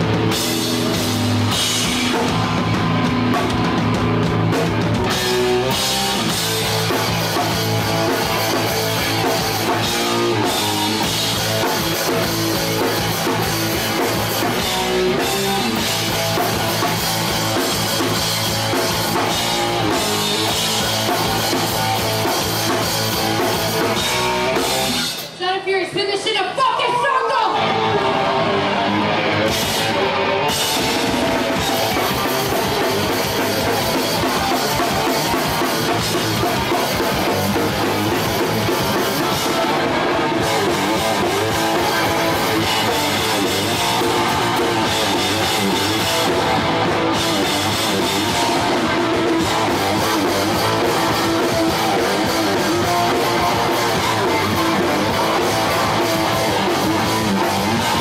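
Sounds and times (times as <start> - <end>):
bass guitar: 0.0 - 25.4, 27.3 - 58.0
distorted electric guitar: 0.0 - 26.1, 27.0 - 58.0
pounding drum kit: 0.0 - 26.8, 27.5 - 58.0.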